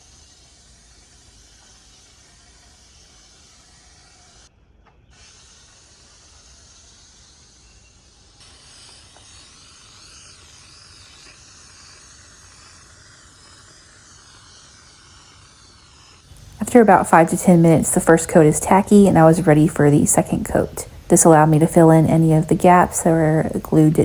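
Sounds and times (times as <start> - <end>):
aerosol spray can hissing: 0.0 - 4.5, 5.1 - 24.0.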